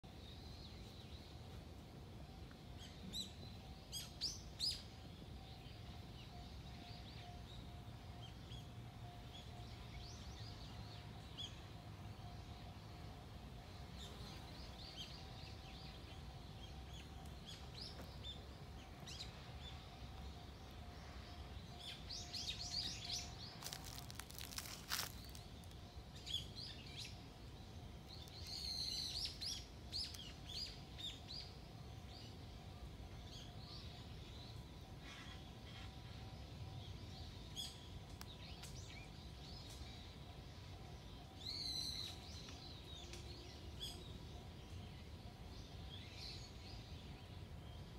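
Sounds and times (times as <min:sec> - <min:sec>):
faint steady hum: 0:00.0 - 0:47.9
wild birds chirping: 0:00.0 - 0:47.9.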